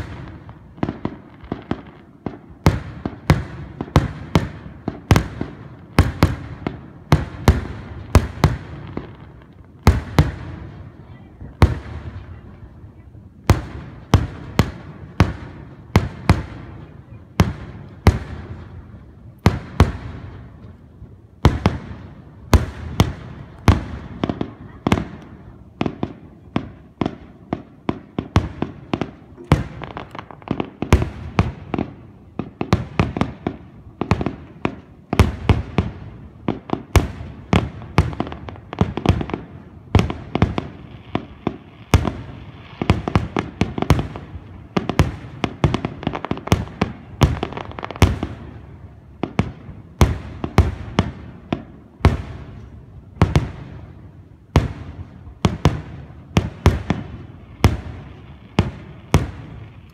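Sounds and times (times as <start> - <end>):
fireworks booming: 0.0 - 59.9.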